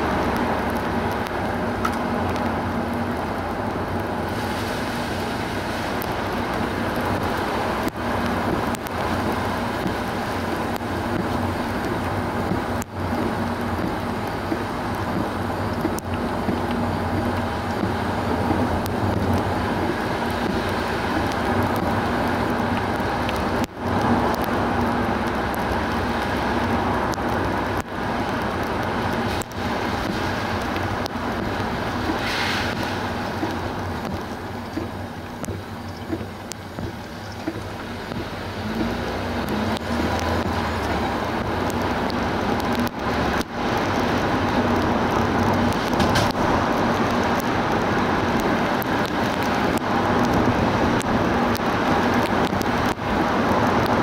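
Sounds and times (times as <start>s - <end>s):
car road and tyre noise: 0.0s - 54.0s.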